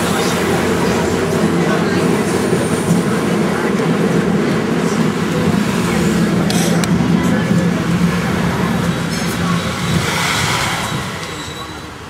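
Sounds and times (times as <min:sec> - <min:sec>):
tram running on rails: 0:00.0 - 0:12.0.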